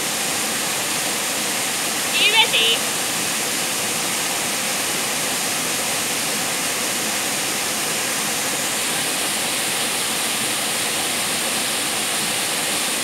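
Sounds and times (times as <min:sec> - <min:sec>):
waterfall pouring into pool: 0:00.0 - 0:13.0.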